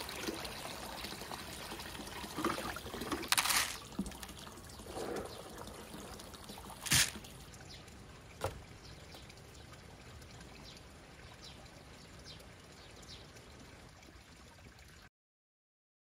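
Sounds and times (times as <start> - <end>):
water pouring into a pond: 0.0 - 15.1.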